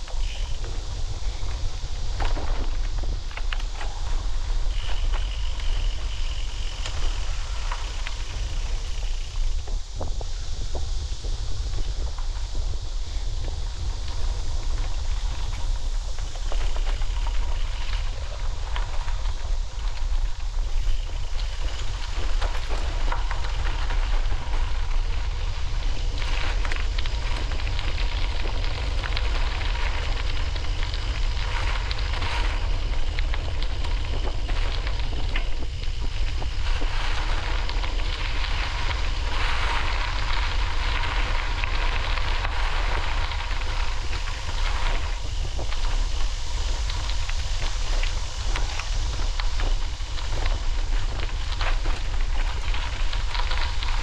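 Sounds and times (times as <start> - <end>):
crackling hiss: 0.0 - 54.0
wind buffeting microphone: 0.0 - 54.0.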